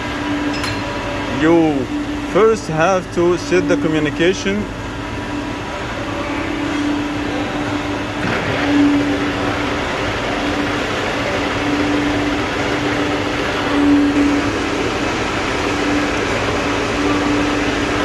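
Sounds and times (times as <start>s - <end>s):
workshop machinery hum: 0.0s - 18.0s.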